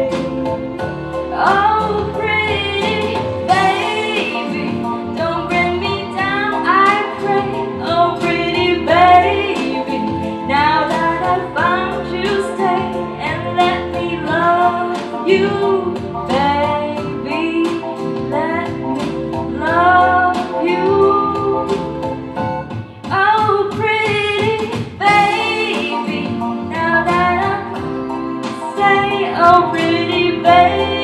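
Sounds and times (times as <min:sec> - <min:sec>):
instrumental accompaniment: 0:00.0 - 0:31.0
woman singing: 0:01.3 - 0:21.8, 0:23.1 - 0:27.8, 0:28.6 - 0:31.0.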